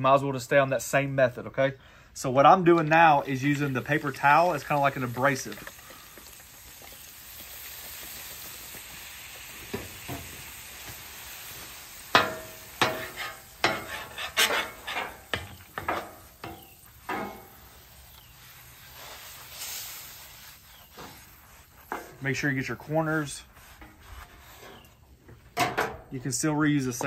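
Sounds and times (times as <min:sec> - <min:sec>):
water sizzling on hot griddle: 0:02.5 - 0:24.9
scrubbing strokes on griddle: 0:02.9 - 0:25.4.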